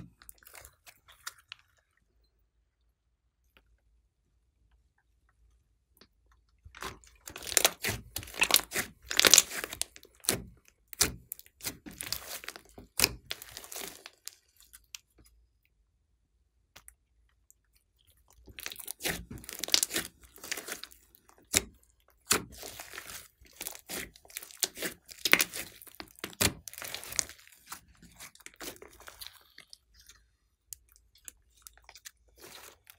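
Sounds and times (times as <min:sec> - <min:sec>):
slime squeezed wet crackles: 0:00.0 - 0:02.0, 0:06.0 - 0:15.4, 0:16.8 - 0:32.9.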